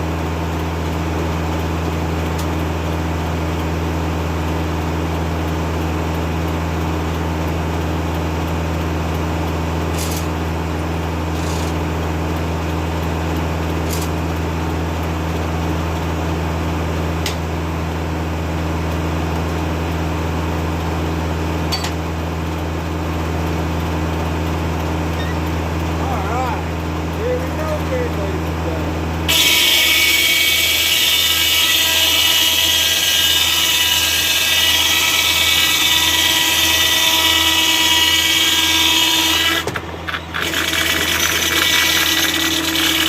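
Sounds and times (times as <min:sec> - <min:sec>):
tractor diesel engine droning: 0:00.0 - 0:43.0.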